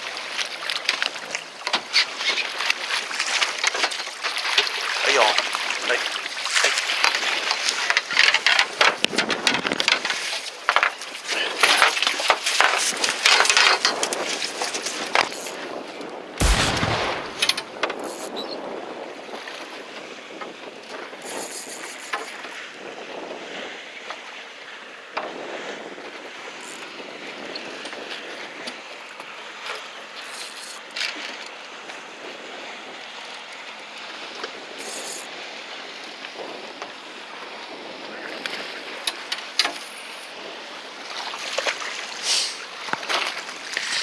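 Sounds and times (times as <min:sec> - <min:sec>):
sea noise: 0:00.0 - 0:44.0
wind: 0:00.0 - 0:44.0.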